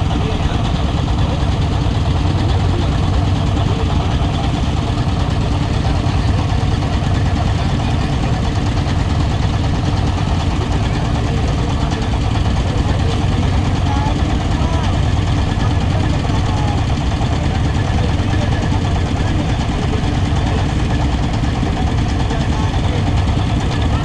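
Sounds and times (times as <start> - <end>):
ship engine humming: 0.0 - 24.0.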